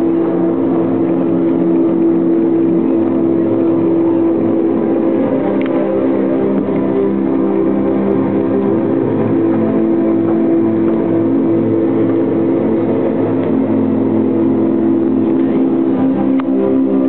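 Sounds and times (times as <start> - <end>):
droning chord music: 0.0 - 17.0.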